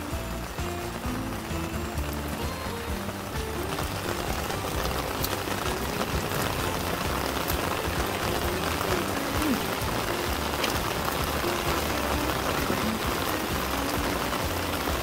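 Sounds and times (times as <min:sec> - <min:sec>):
rain falling on plants: 0:00.0 - 0:15.0.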